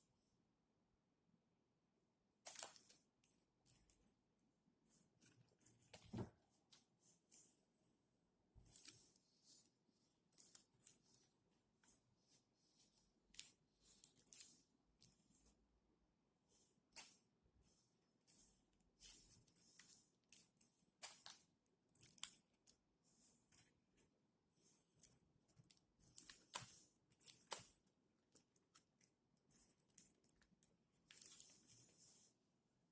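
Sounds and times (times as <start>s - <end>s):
faint crisp clicks and scrapes: 2.4s - 15.8s, 16.4s - 32.9s.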